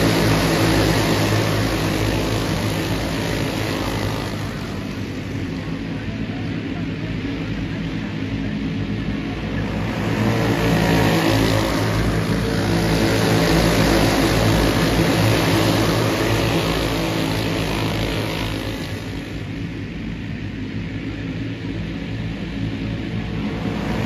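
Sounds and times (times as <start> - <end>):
racing kart engines passing: 0.0 - 7.9, 9.1 - 19.8, 23.2 - 24.0.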